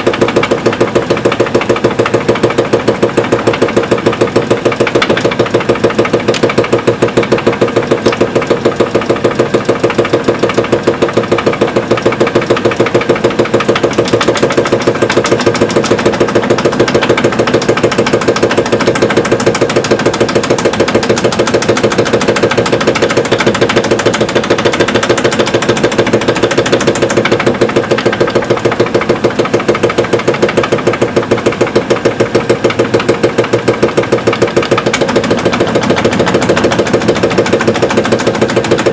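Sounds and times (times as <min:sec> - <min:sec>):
washing machine drum knocking: 0:00.0 - 0:38.9.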